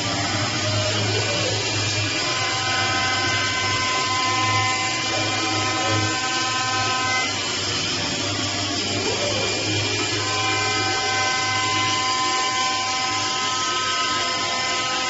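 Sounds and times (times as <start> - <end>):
machine motor whine: 0.0 - 15.0
noisy rush: 0.0 - 15.0.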